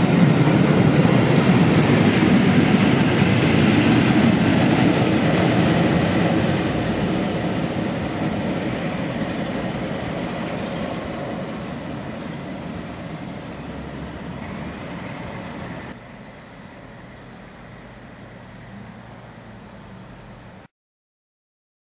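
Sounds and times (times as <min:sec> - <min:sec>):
diesel train passing: 0:00.0 - 0:20.7.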